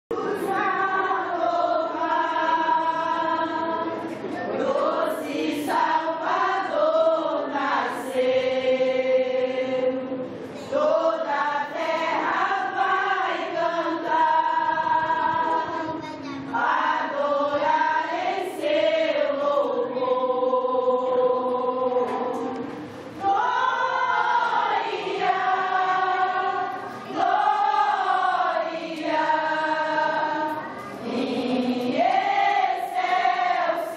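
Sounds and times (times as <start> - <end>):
women's choir singing: 0.1 - 33.9.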